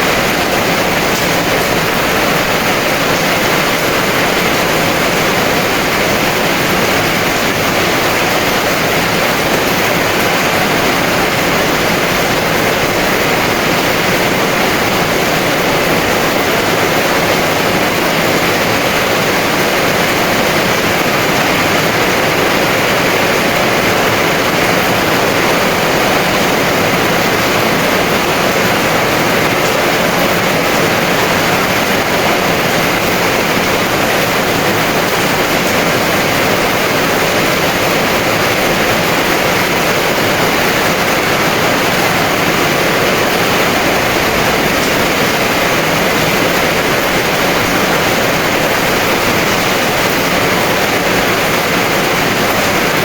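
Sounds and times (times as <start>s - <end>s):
heavy rain downpour: 0.0s - 53.0s.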